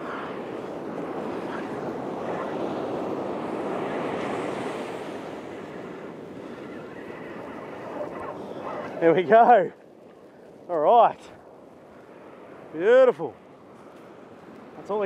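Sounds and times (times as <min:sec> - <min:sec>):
wind on microphone: 0:00.0 - 0:12.8
ocean surf breaking: 0:00.0 - 0:15.0.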